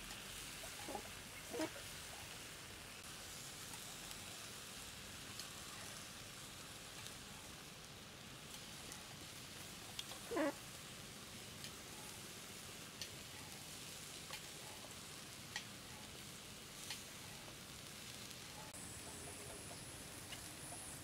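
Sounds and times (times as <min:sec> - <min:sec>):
sauce sizzling on grill: 0:00.0 - 0:21.0.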